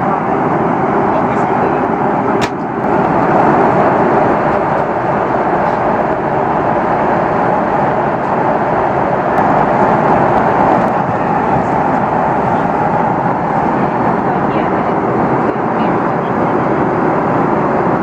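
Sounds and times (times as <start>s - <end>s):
jet engines roaring: 0.0s - 18.0s
rushing air in cabin: 0.0s - 18.0s.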